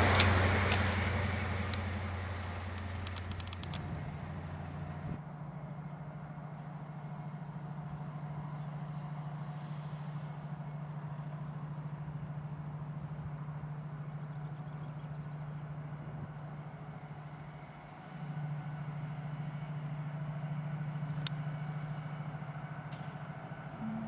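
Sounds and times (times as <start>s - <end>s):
faint outdoor background: 0.0s - 24.0s
low engine hum: 0.0s - 24.0s.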